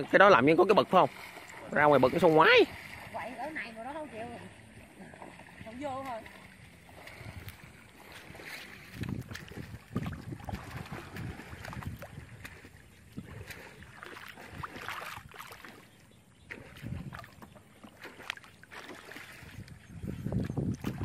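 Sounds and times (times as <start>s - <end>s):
muddy water sloshing and splashing: 0.0s - 21.0s.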